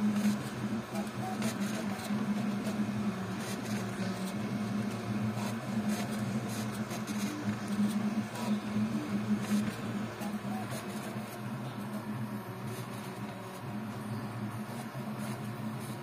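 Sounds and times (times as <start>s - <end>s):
printer fans and motors humming: 0.0s - 16.0s.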